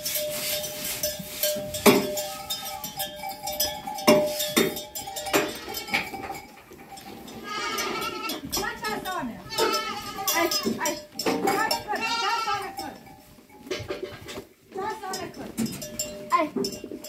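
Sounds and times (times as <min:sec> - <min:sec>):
metal clanks: 0:00.0 - 0:11.9, 0:13.5 - 0:17.0.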